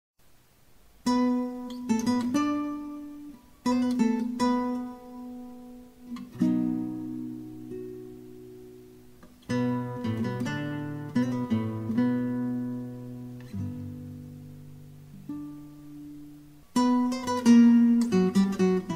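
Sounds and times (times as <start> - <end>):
acoustic guitar plucking: 1.0 - 18.9.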